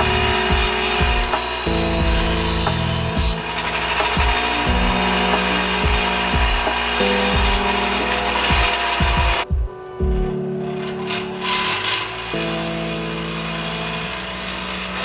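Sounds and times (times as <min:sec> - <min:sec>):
bench grinder grinding blade: 0:00.0 - 0:09.4, 0:10.6 - 0:15.0
background music with steady beat: 0:00.0 - 0:14.8.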